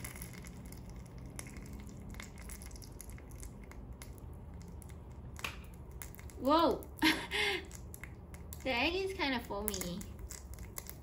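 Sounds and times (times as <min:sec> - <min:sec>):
egg crackling in hot oil: 0:00.0 - 0:11.0.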